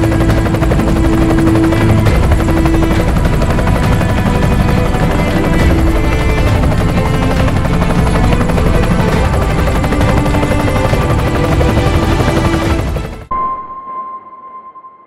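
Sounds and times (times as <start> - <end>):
helicopter engine hum: 0.0 - 13.3
helicopter rotor blades chopping: 0.0 - 13.3.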